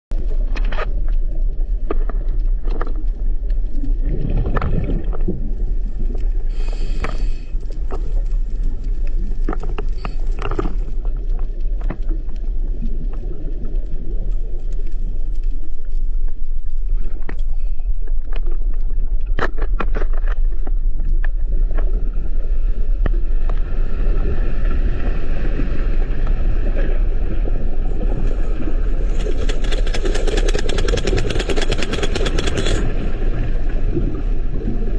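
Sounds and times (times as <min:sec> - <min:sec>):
deep underwater rumble: 0:00.1 - 0:34.9.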